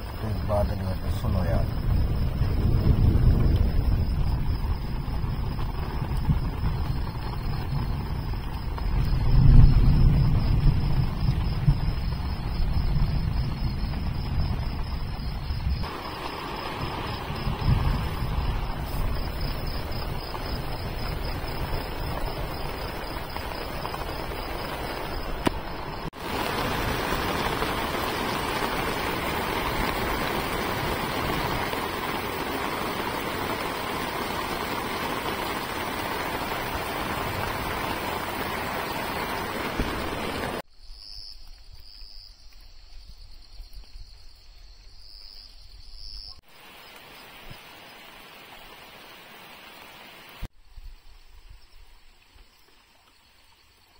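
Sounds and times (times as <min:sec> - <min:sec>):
heavy rain hissing: 0:00.0 - 0:40.6, 0:46.4 - 0:50.5
insects chirping: 0:00.0 - 0:53.9.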